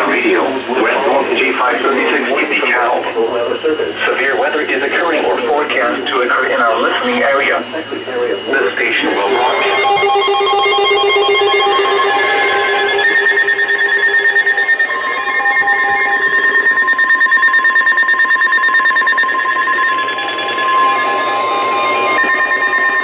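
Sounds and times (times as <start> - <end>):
long steady tone: 0.0 - 23.0.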